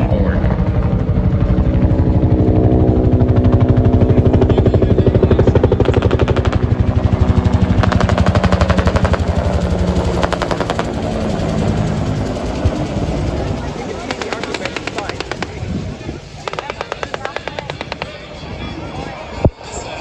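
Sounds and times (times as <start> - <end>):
helicopter rotor blade slap: 0.6 - 18.8.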